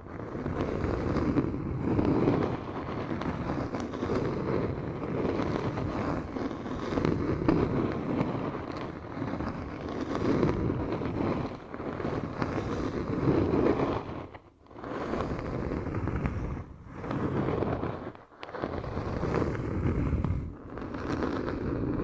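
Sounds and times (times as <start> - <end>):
faint crackles: 0.0 - 22.0
rubbing on microphone: 0.0 - 22.0.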